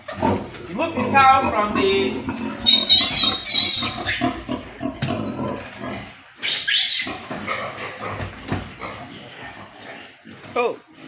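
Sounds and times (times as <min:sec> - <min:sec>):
pigs squealing and grunting: 0:00.0 - 0:11.0.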